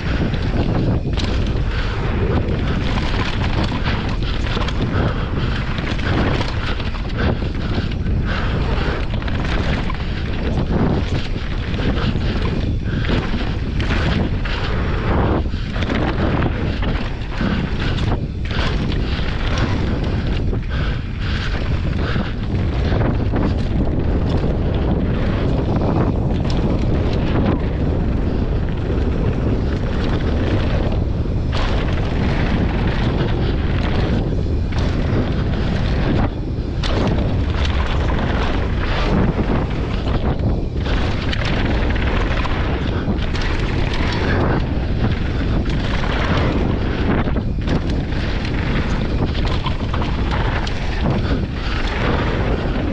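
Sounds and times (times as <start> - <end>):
bike clattering over bumps: 0.0 - 52.9
bike tyres rumbling on dirt: 0.0 - 52.9
wind buffeting microphone: 0.0 - 52.9.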